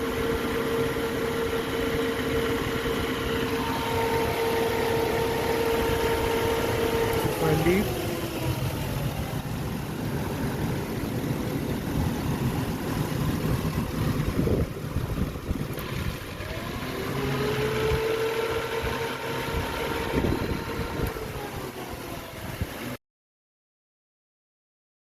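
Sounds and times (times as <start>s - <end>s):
car engine idling: 0.0s - 23.0s
rising whine: 0.0s - 23.0s.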